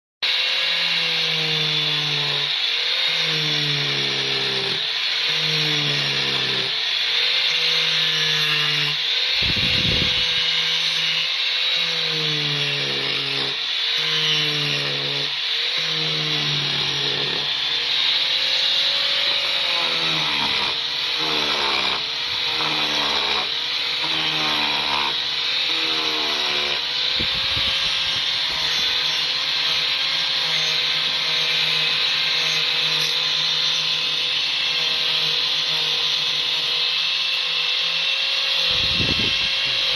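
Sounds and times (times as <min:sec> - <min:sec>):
angle grinder grinding wood: 0:00.2 - 0:39.9.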